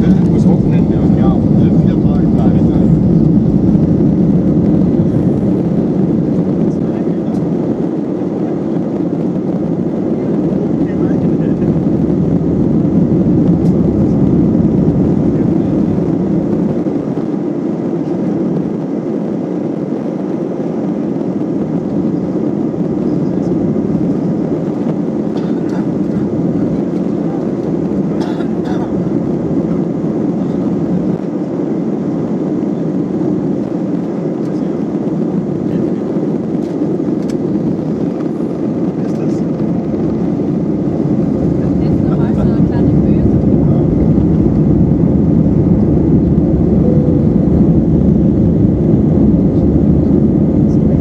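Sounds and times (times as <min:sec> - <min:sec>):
airplane cabin engine roar: 0:00.0 - 0:51.0
wheels rumbling on runway: 0:00.0 - 0:51.0.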